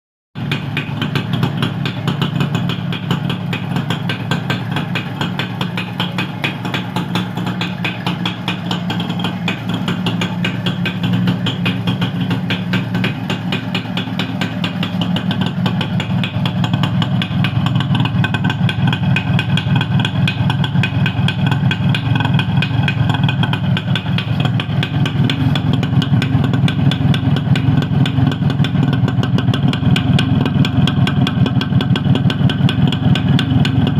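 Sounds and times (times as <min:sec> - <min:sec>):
motorcycle engine idling: 0:00.4 - 0:33.9.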